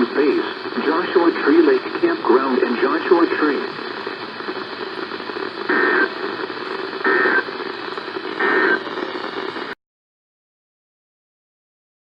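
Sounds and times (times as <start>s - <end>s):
buzzy data bursts: 0.0s - 9.8s
radio hiss: 0.0s - 9.8s.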